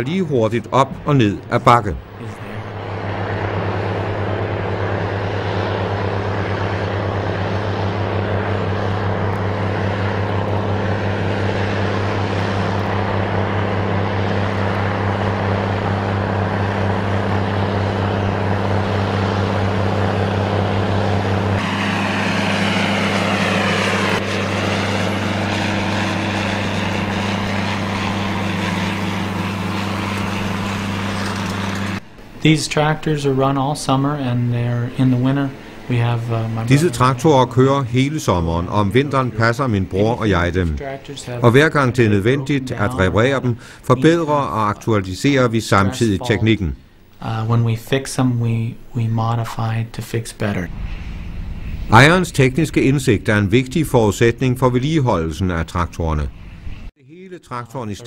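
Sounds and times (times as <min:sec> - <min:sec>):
diesel tractor engines droning: 0:00.0 - 0:56.9.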